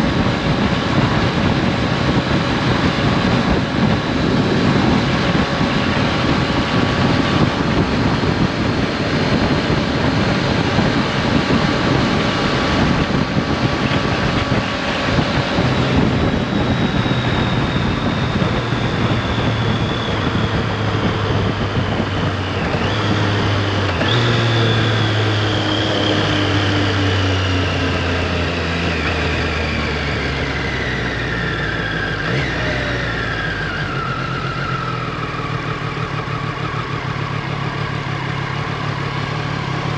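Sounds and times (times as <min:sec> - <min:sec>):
wind rushing over microphone: 0:00.0 - 0:37.2
motorcycle engine decelerating: 0:00.0 - 0:39.9.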